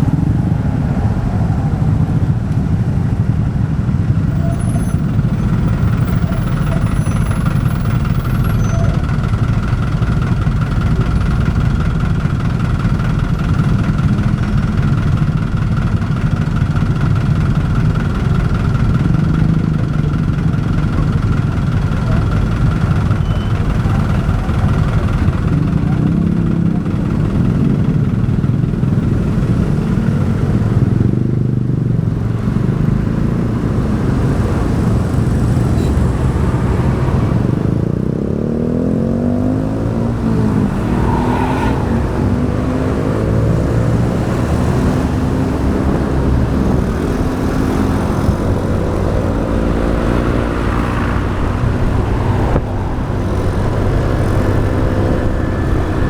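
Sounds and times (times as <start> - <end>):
road traffic rumble: 0.0 - 56.0
motorbike engine revving: 4.2 - 56.0.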